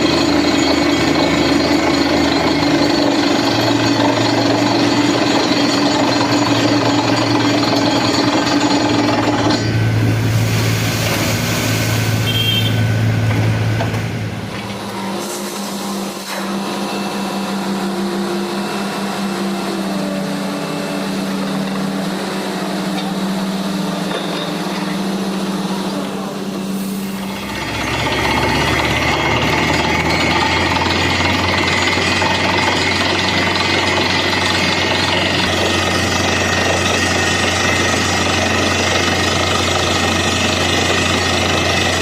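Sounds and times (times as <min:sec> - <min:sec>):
drilling rig engine drone: 0:00.0 - 0:42.0.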